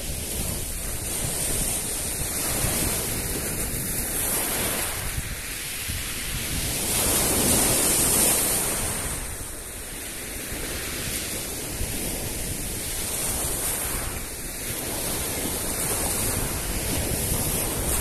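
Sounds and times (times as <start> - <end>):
waves breaking: 0.0 - 18.0.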